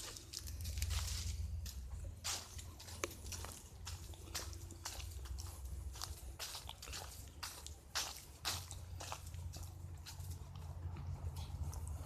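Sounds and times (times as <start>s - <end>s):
footsteps on a trail: 0.0s - 12.0s
steady low rumble: 0.0s - 12.0s.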